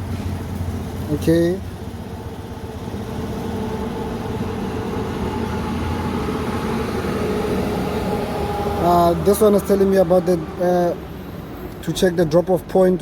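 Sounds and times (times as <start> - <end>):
motor vehicle low hum: 0.0 - 11.8.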